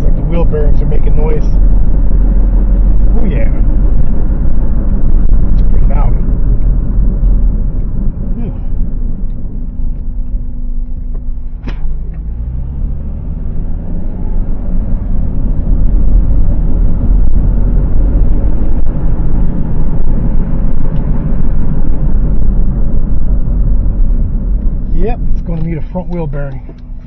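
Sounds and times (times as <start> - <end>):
wheel bearing droning and rumbling: 0.0 - 27.0.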